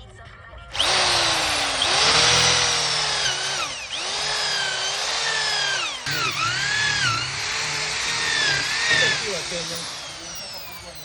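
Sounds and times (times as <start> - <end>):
electric drill drilling into wood: 0.7 - 11.0.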